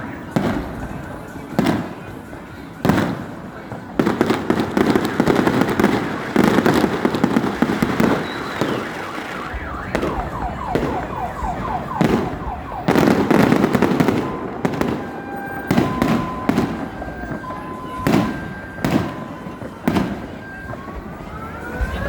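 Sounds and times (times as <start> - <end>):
fireworks bangs and crackling: 0.0 - 22.0
fireworks falling whistles: 2.8 - 22.0.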